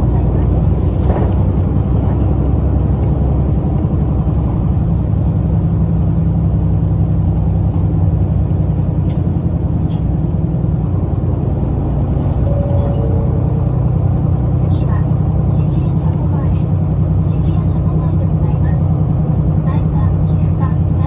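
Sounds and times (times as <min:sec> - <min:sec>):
bus engine humming: 0:00.0 - 0:21.0
low road rumble: 0:00.0 - 0:21.0.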